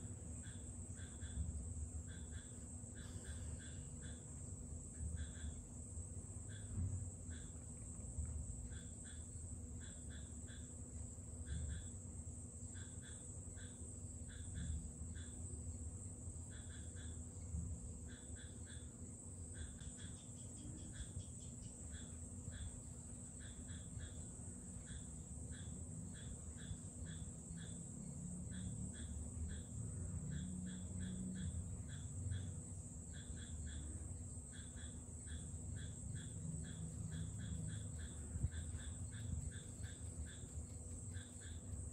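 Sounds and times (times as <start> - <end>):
insect chirping: 0.0 - 41.9.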